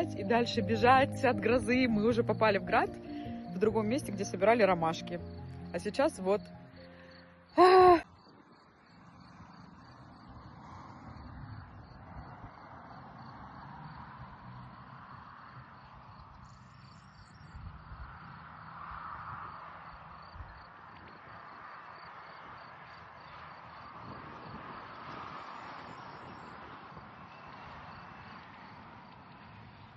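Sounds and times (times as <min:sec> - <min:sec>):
insects chirping: 0:00.0 - 0:29.8
low wind rumble: 0:00.0 - 0:29.9.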